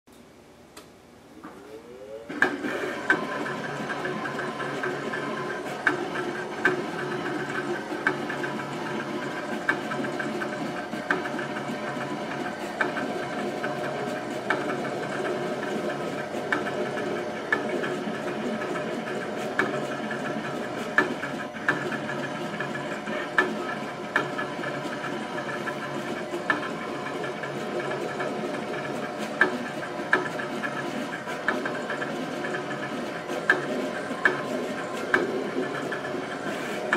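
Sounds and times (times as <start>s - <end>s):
plotter motors whining: 1.4s - 36.9s.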